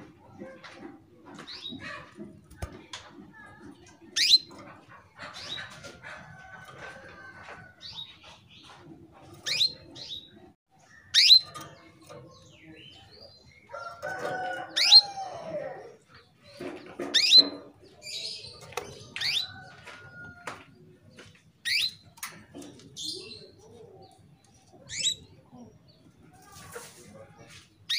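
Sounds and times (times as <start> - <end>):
soft canary chirps: 1.3 - 2.7, 3.4 - 20.5, 21.1 - 27.9.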